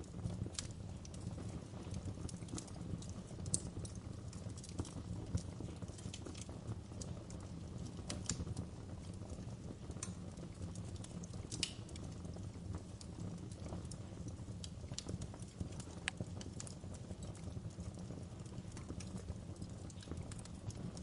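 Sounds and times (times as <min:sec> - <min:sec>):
fire pops and snaps: 0:00.0 - 0:21.0
low rumble of burning: 0:00.0 - 0:21.0.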